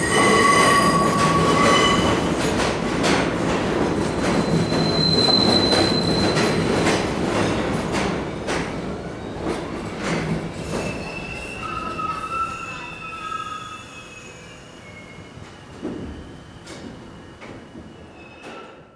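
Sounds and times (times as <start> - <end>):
subway train rumbling: 0.0 - 18.9.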